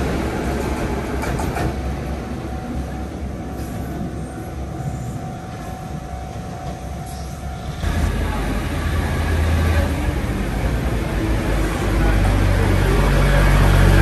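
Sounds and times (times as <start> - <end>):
diesel railcar rumbling: 0.0 - 14.0.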